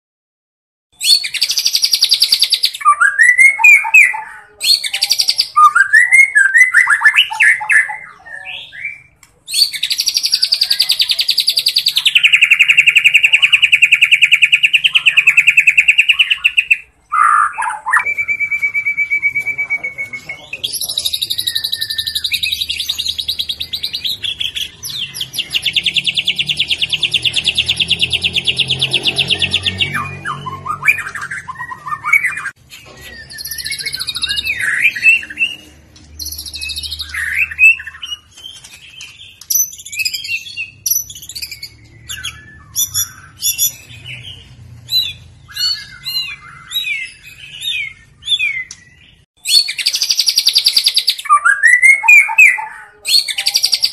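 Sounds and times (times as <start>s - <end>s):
songbird singing fast song: 1.0s - 35.6s, 36.2s - 53.9s.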